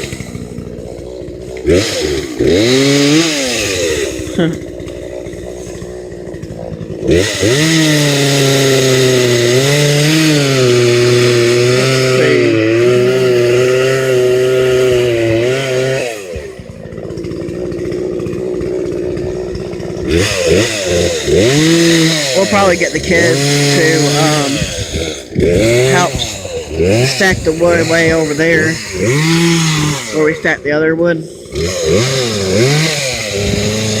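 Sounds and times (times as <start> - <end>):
chainsaw cutting wood: 0.0 - 34.0
chainsaw engine revving: 0.0 - 34.0.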